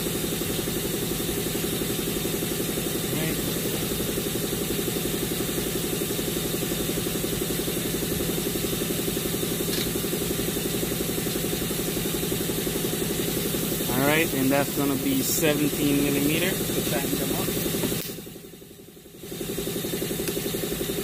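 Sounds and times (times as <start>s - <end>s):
machine idling with pulsing hum: 0.0s - 21.0s.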